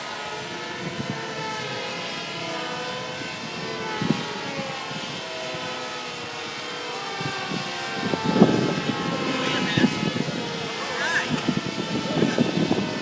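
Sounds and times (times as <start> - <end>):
model plane motors whining: 0.0 - 13.0.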